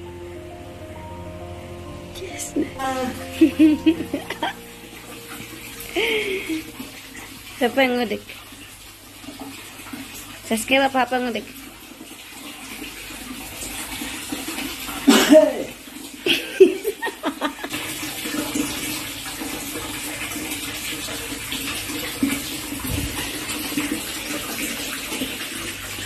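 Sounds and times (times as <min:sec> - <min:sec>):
tap water splashing into basin: 0:03.4 - 0:26.0.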